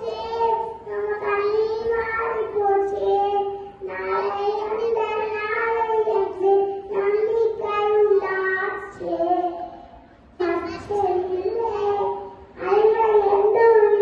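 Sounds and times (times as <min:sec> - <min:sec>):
boy singing into a microphone: 0:00.0 - 0:09.8, 0:10.4 - 0:14.0.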